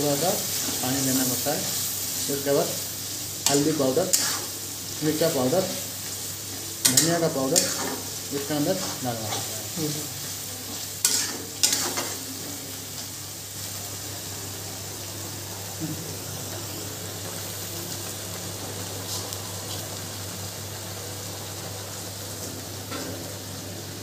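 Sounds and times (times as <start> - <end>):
sauce sizzling in a pan: 0.0 - 24.0.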